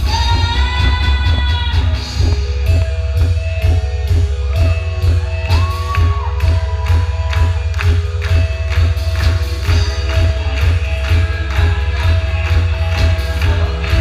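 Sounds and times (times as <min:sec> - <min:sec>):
drum kit steady beat: 0:00.0 - 0:14.0
strong bass: 0:00.0 - 0:14.0.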